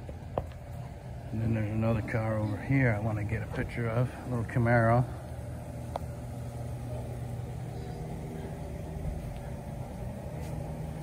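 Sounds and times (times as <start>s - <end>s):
mechanical hum and rumble: 0.0s - 11.0s.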